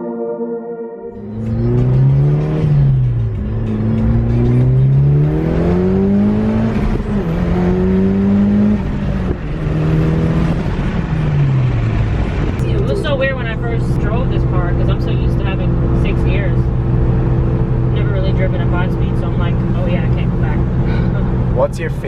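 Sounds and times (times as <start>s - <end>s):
car engine accelerating: 1.0s - 22.0s.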